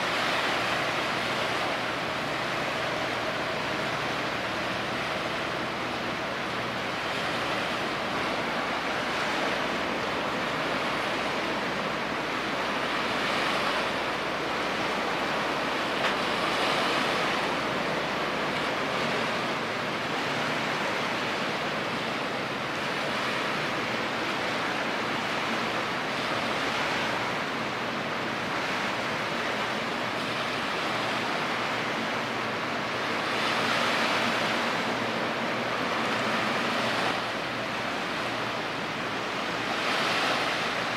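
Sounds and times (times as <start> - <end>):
waves washing against shore: 0.0 - 40.9.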